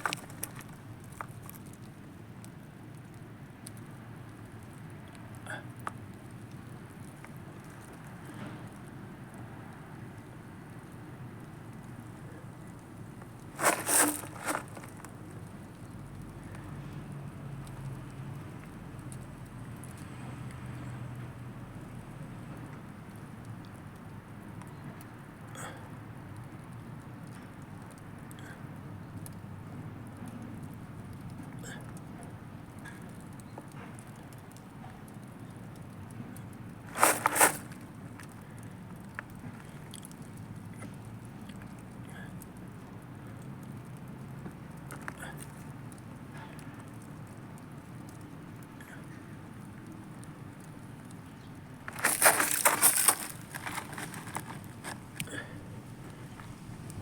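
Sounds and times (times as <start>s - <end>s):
fire crackling: 0.0s - 20.1s, 26.2s - 57.0s
bonfire burning: 0.0s - 57.0s.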